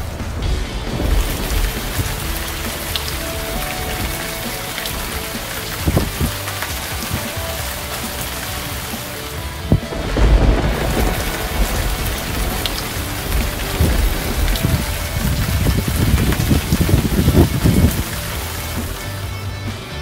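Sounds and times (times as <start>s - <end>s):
deep low rumbling: 0.0s - 18.8s
rain pouring: 0.0s - 20.0s.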